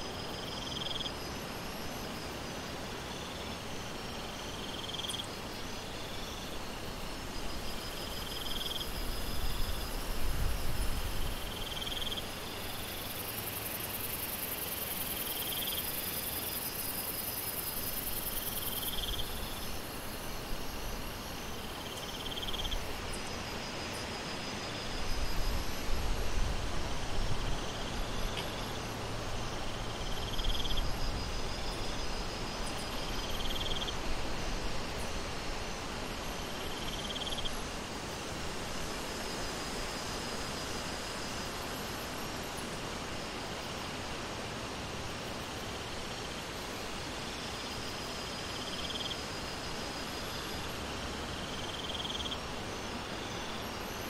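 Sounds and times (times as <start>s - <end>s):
insects chirping: 0.0s - 54.0s
steady rain hiss: 0.0s - 54.0s.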